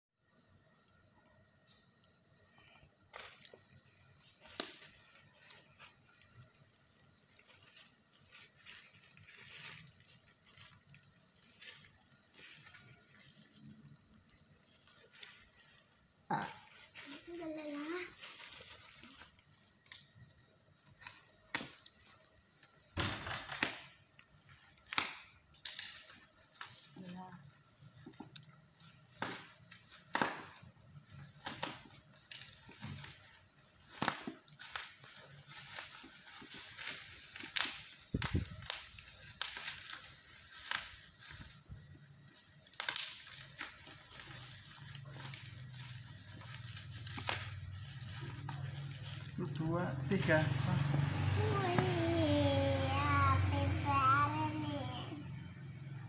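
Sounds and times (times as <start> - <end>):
plastic bag crinkling: 3.0 - 55.0.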